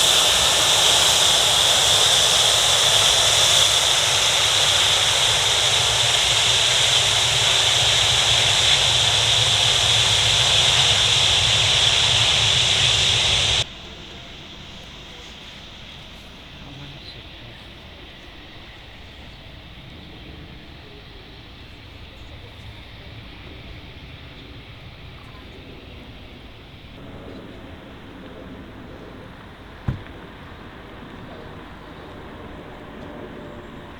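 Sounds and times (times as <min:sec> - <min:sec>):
jet engines rushing and whining: 0:00.0 - 0:33.9.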